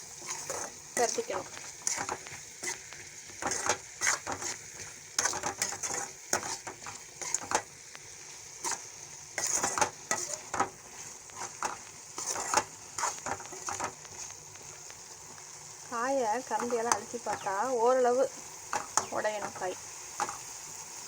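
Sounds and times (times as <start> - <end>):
spoon scraping and knocking in pan: 0.0 - 14.9, 16.5 - 17.6, 18.6 - 20.5
steady sizzle: 0.0 - 21.0.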